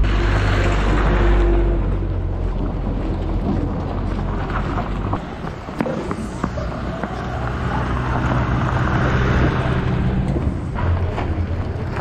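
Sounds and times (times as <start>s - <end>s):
truck engine passing: 0.0s - 12.0s
wind rumble on microphone: 0.0s - 12.0s.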